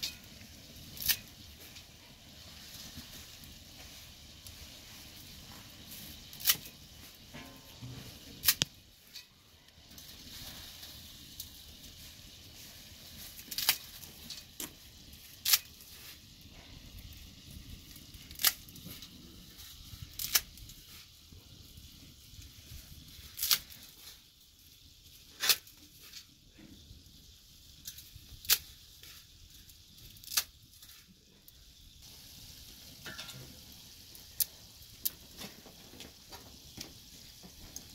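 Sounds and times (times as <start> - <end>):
faint steady hiss: 0.0 - 37.9.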